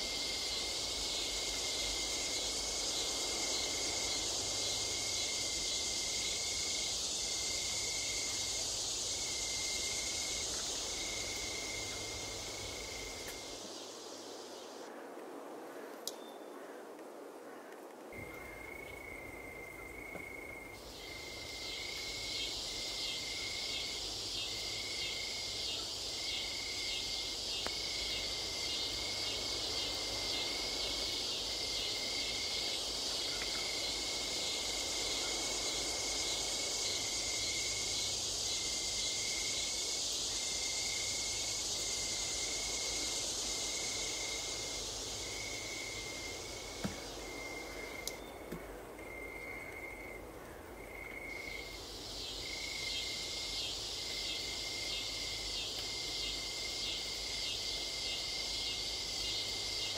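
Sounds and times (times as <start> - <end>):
shrill pulsing insect chorus: 0.0 - 15.0, 18.1 - 59.9
low chirping insect: 0.0 - 59.9.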